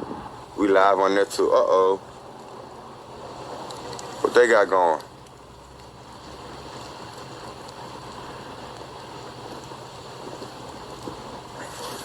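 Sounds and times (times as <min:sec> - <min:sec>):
even hiss: 0:00.0 - 0:12.0.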